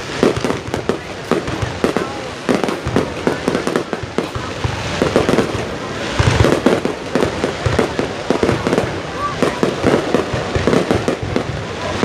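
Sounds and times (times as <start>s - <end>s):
deep firework boom: 0.0s - 12.0s
fireworks bangs and crackles: 0.0s - 12.0s.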